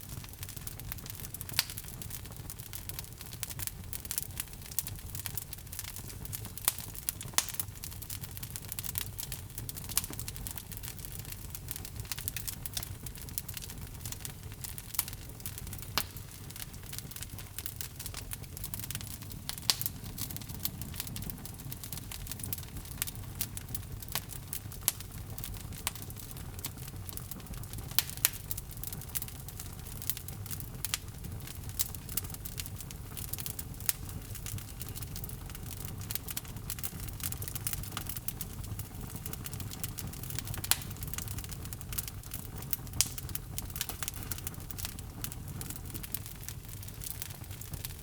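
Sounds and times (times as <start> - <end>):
low rumble of flames: 0.0 - 48.0
wood fire crackling and popping: 0.0 - 48.0.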